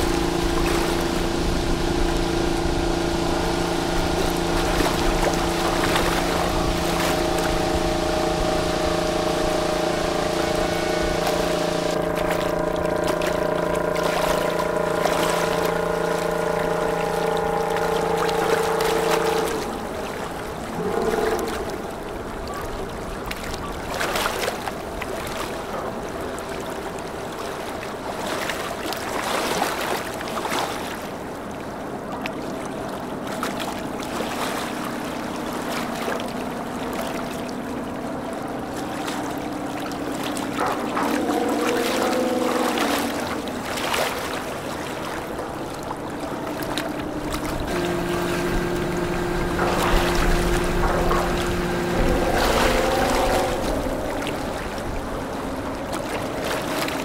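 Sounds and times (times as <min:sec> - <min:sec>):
boat engine drone: 0:00.0 - 0:57.0
river water swashing: 0:00.0 - 0:57.0
wind: 0:00.0 - 0:57.0.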